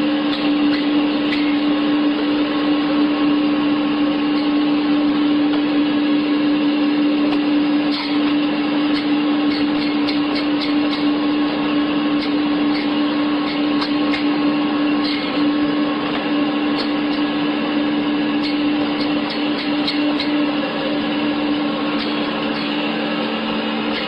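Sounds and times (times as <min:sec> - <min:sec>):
band saw whirring: 0:00.0 - 0:24.0.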